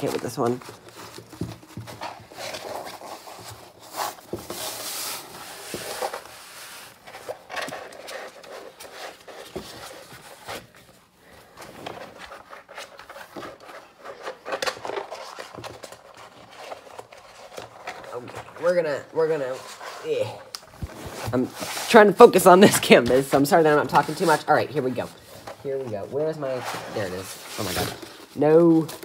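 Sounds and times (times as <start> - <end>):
palms rubbing over paper: 0.0 - 10.8, 12.0 - 28.5
paper and plastic rustling: 0.0 - 29.0.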